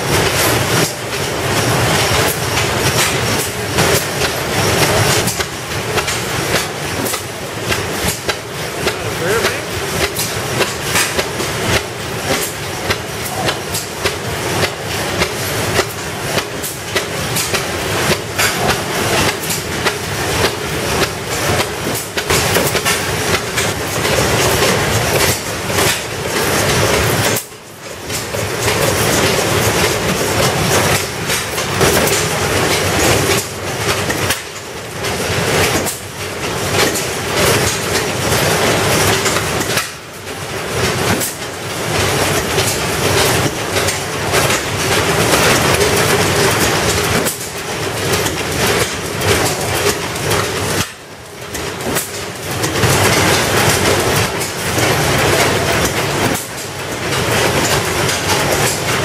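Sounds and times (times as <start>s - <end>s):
stationary gas engines running: 0.0s - 59.0s.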